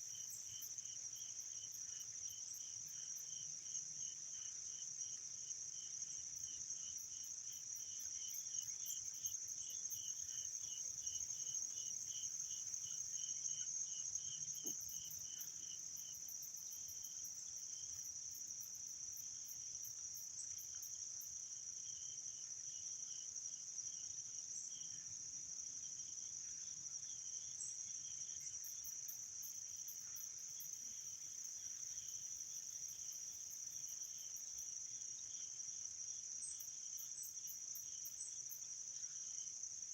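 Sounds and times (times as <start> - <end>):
crickets and insects chirping: 0.0 - 39.9
low pulsing insect trill: 0.0 - 39.9.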